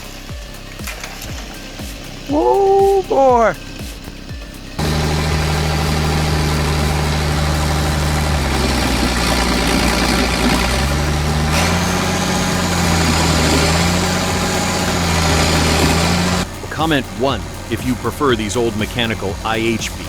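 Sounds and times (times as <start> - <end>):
tractor engine running hard: 3.6 - 20.0.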